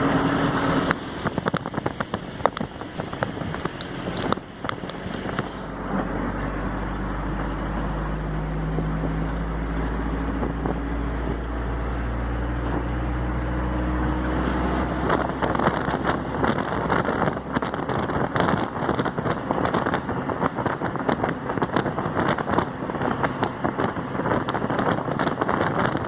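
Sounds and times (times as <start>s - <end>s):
steady rushing noise: 0.0s - 26.0s
vehicle engine humming: 0.0s - 26.0s.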